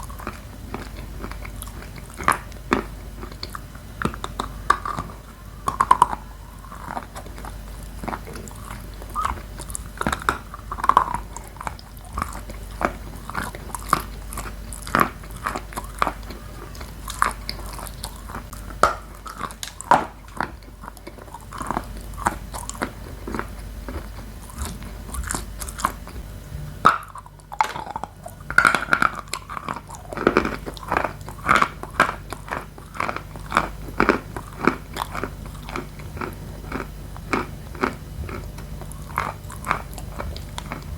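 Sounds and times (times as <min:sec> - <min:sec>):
chewing dry chalk crunches: 0:00.0 - 0:26.2, 0:26.8 - 0:40.9.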